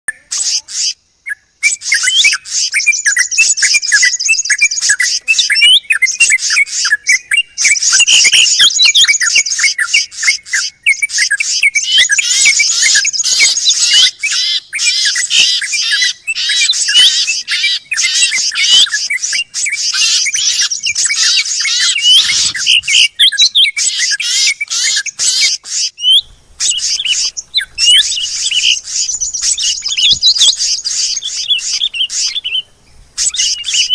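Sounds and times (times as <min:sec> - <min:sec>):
songbirds chirping and trilling: 0:00.1 - 0:33.9.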